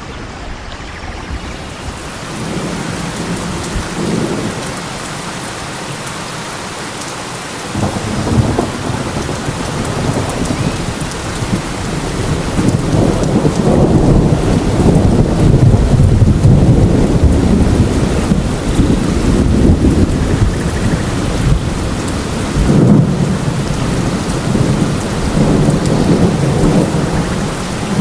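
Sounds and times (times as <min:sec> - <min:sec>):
rolling thunder: 0:00.0 - 0:05.8, 0:07.7 - 0:28.0
steady rain: 0:00.0 - 0:28.0.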